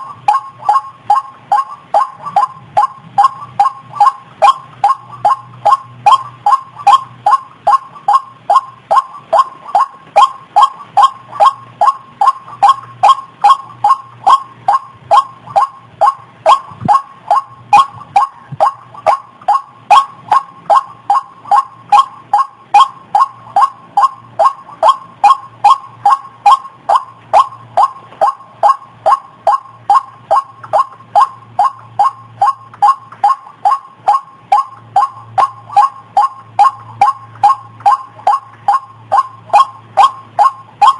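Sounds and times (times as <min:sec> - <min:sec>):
faint low hum: 0:00.0 - 0:40.9
waterhen calling: 0:00.0 - 0:40.9.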